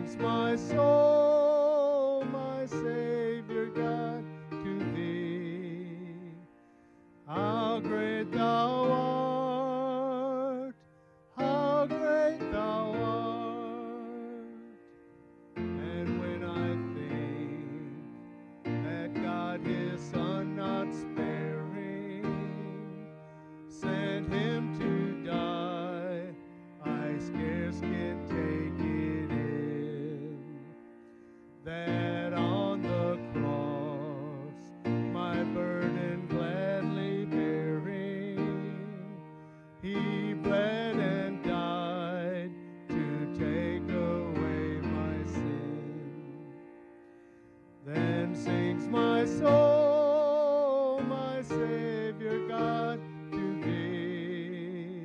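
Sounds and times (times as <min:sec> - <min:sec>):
man singing with vibrato: 0:00.0 - 0:46.8, 0:47.7 - 0:55.0
sustained keyboard accompaniment: 0:00.0 - 0:55.0.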